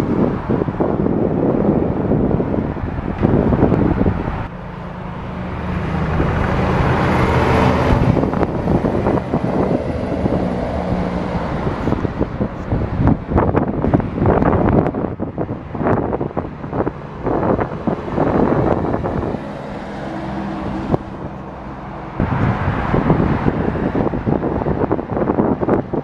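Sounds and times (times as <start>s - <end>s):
diesel truck passing by: 0.0s - 26.0s
wind buffeting microphone: 0.0s - 26.0s.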